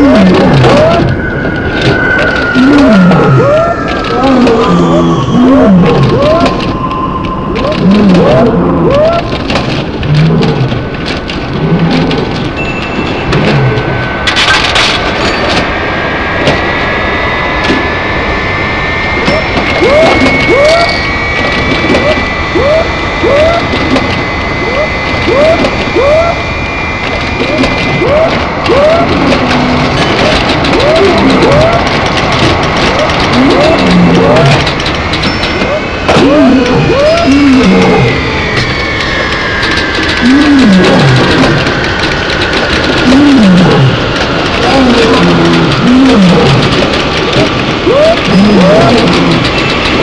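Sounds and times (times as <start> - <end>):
scattered clicks: 0.0 - 17.0, 18.8 - 50.0
noisy din: 0.0 - 50.0
steady high tone: 0.0 - 50.0
wash like rain and thunder: 0.0 - 50.0.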